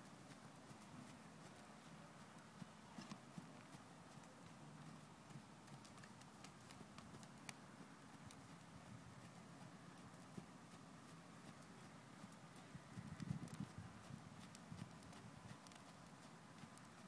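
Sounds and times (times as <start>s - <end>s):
horse hoofbeats trotting: 0.0s - 17.0s.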